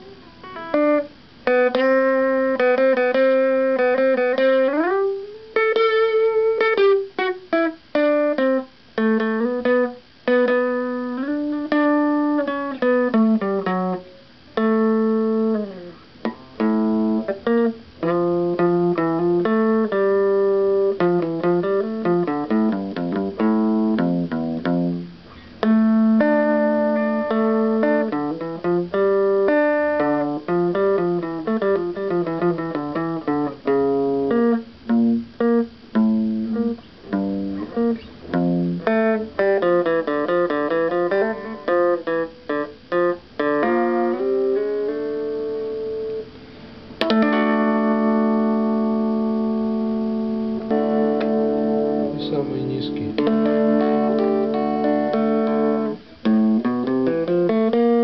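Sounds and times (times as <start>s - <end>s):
electric guitar through small speaker: 0.0s - 58.0s.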